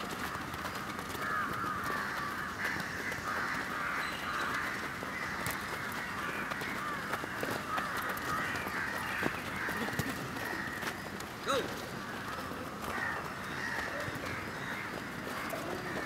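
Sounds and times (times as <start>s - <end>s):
birds calling harshly: 0.1s - 16.0s.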